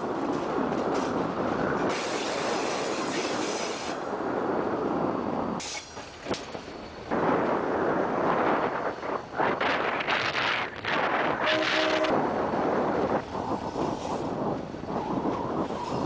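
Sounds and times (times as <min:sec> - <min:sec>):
train wheels rumbling on rails: 0:00.0 - 0:16.0
wind buffeting microphone: 0:00.0 - 0:16.0.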